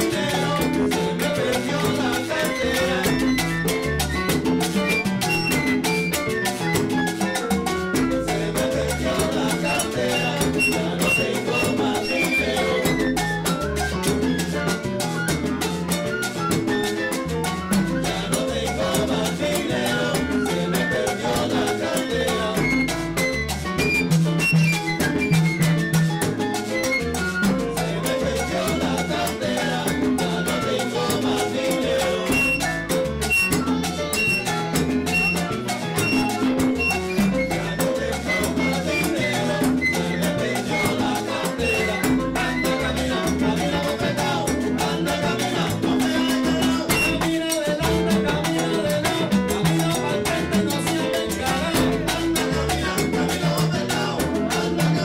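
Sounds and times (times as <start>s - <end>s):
salsa band playing live: 0.0s - 55.0s.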